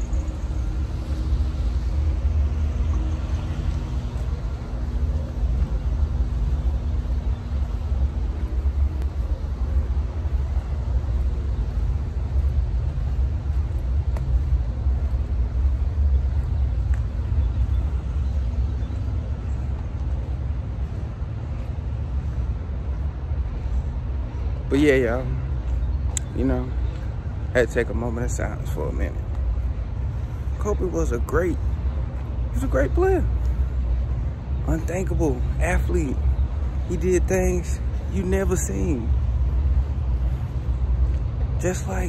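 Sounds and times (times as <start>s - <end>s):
distant traffic: 0.0s - 42.0s
faint steady hum: 0.0s - 42.0s.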